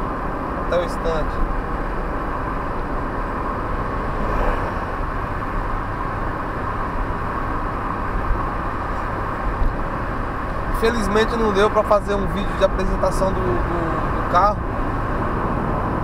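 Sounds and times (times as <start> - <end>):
car cabin road drone: 0.0 - 16.0.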